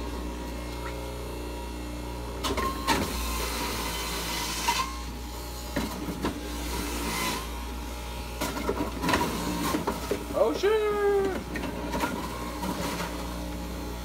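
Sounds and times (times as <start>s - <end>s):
juicer grinding fruit: 0.0s - 14.0s
juicer running: 0.0s - 14.0s.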